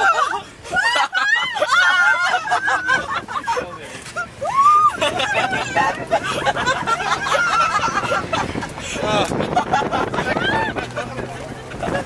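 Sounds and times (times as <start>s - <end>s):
snickering laughter: 0.0s - 3.9s, 4.9s - 12.0s
people shrieking and squealing: 0.0s - 11.1s.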